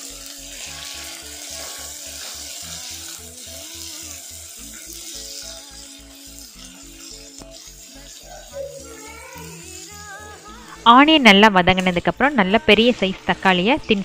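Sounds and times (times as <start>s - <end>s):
onions sizzling in hot oil: 0.0s - 12.4s
background music with steady beat: 0.0s - 14.0s.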